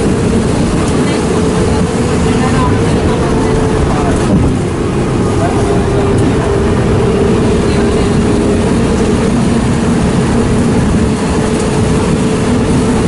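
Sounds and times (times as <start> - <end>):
bus engine and road drone: 0.0 - 13.0
steady whine: 0.0 - 13.0.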